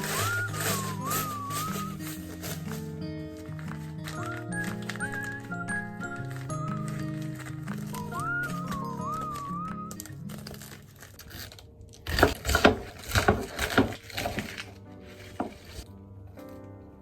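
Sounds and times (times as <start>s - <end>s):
packaging crinkling and tearing: 0.0s - 16.6s
soft background music: 0.0s - 17.0s.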